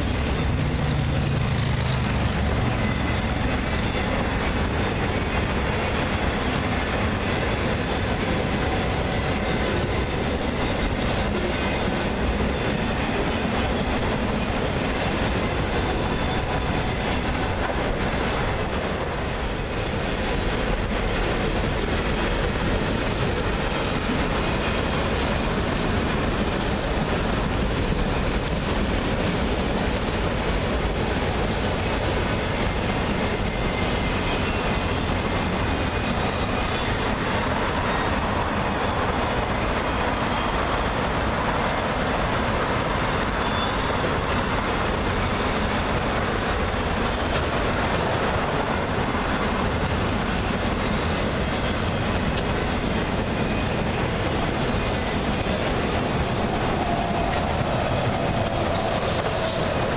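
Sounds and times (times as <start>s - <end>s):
rail joint clicks: 0.0s - 59.9s
wheels rumbling on rail: 0.0s - 59.9s.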